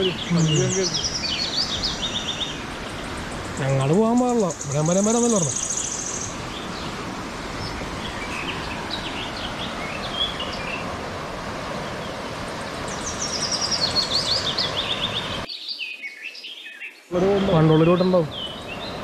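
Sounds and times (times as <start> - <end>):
river rushing: 0.0 - 15.5, 17.1 - 19.0
birds chirping: 0.0 - 19.0.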